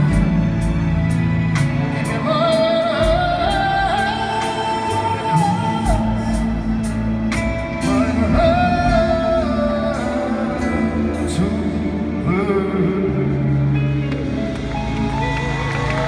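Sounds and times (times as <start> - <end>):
piano: 0.0 - 16.0
upright double bass: 0.0 - 16.0
person singing long gliding notes: 1.9 - 15.9.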